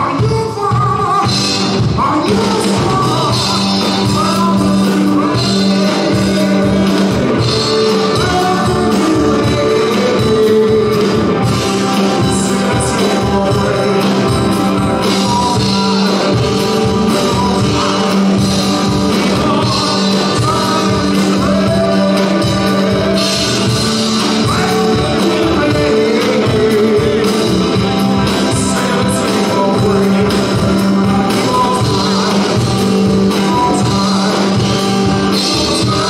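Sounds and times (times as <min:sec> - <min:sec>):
live rock and roll band: 0:00.0 - 0:36.0
person singing lead vocals: 0:00.0 - 0:36.0.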